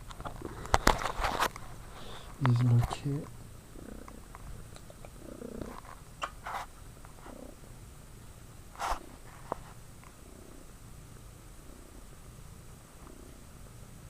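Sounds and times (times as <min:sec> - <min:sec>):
cat purring: 0:01.7 - 0:08.2, 0:08.8 - 0:14.0.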